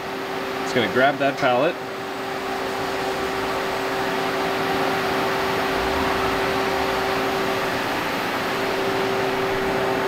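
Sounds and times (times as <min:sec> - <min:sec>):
machine humming: 0:00.0 - 0:10.0
low mechanical rumble: 0:01.8 - 0:10.0.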